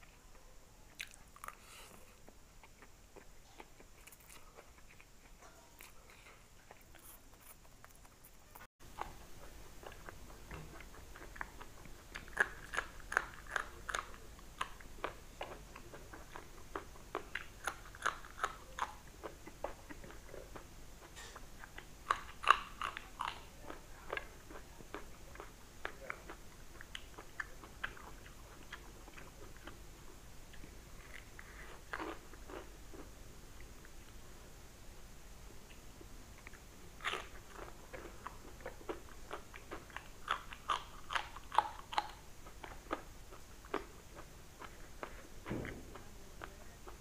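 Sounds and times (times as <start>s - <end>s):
person chewing food: 0.9s - 34.2s, 35.7s - 47.0s
crunchy bites and chewing: 1.0s - 29.8s, 30.5s - 33.1s, 36.4s - 46.0s.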